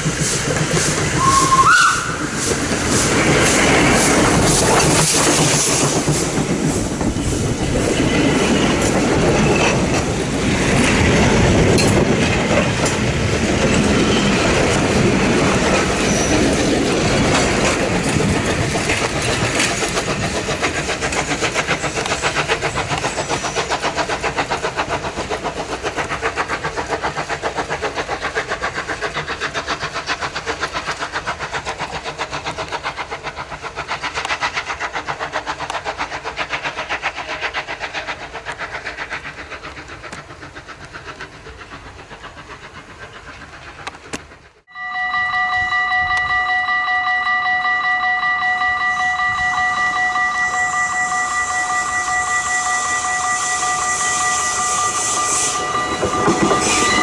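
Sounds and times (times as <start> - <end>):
steam locomotive chuffing: 0.0 - 57.0
train wheels clattering on rails: 0.0 - 57.0.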